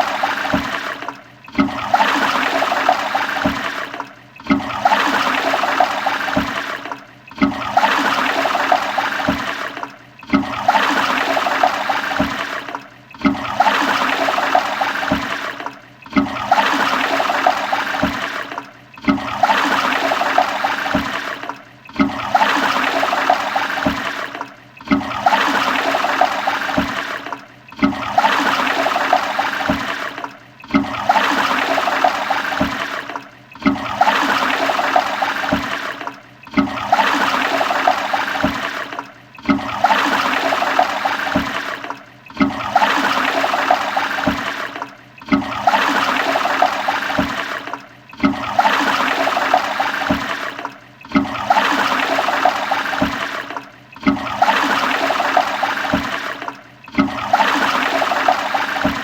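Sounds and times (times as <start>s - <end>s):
toilet flushing: 0.0s - 59.0s.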